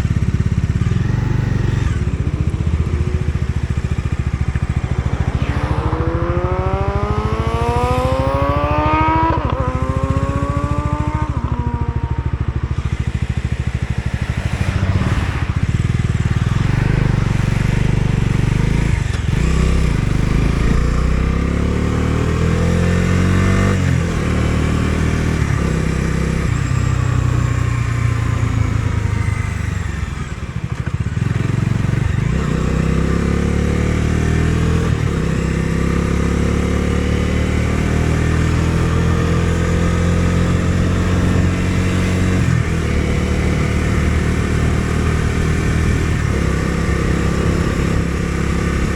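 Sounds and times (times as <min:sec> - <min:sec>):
motorcycle engine shifting gears: 0:00.0 - 0:48.9.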